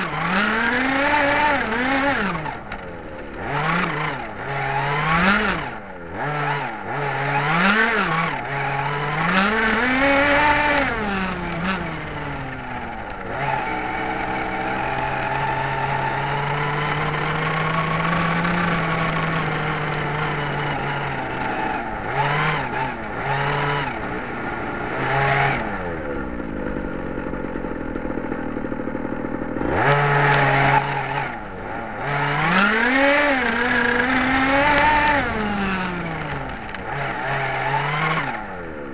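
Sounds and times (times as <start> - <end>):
small engine revving: 0.0 - 38.9.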